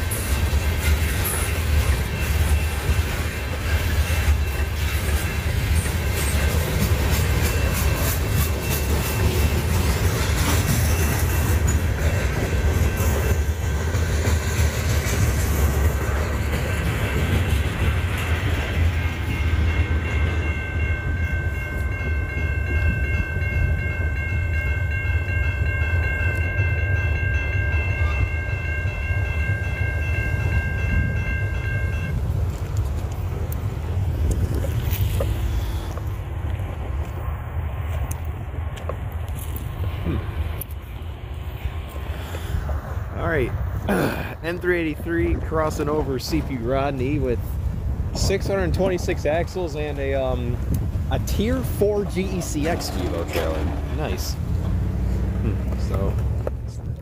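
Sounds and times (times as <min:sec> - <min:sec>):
wheels clacking over rail joints: 0:00.0 - 0:37.2, 0:45.0 - 0:56.9
freight train rumbling past: 0:00.0 - 0:57.0.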